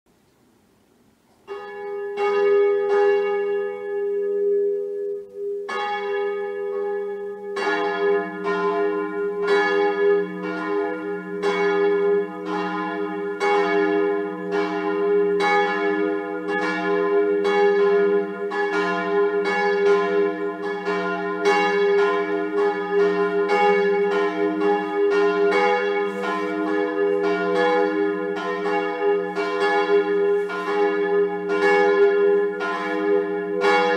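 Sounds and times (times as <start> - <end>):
church bells ringing: 1.4 - 33.9.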